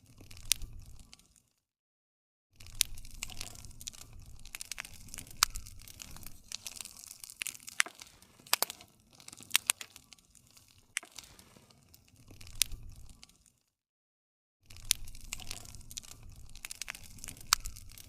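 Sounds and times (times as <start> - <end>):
hiss and rumble of flames: 0.0 - 1.2, 2.6 - 13.4, 14.7 - 18.0
campfire crackling: 0.0 - 1.5, 2.6 - 13.6, 14.7 - 18.0.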